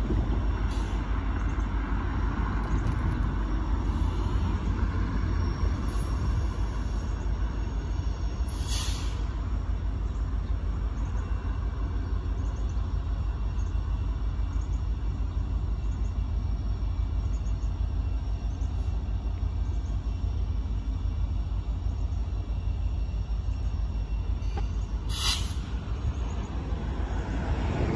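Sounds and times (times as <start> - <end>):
distant diesel locomotive rumble: 0.0 - 27.9.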